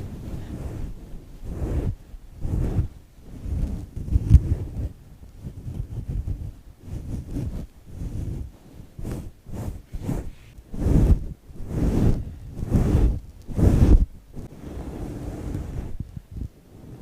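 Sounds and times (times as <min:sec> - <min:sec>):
foam squished and rubbed: 0:00.0 - 0:17.0.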